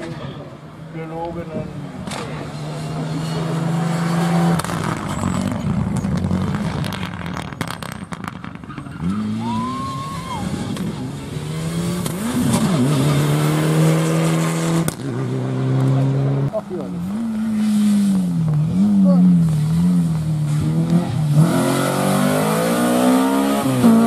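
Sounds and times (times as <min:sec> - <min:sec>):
rally car engine revving: 0:01.8 - 0:09.8, 0:10.4 - 0:24.0.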